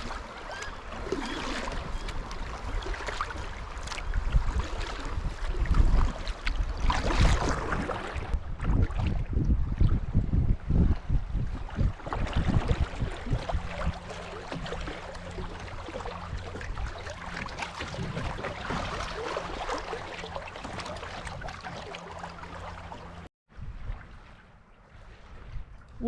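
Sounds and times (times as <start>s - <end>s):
wind buffeting microphone: 0.0s - 21.7s
water splashing around kayak: 0.0s - 26.0s.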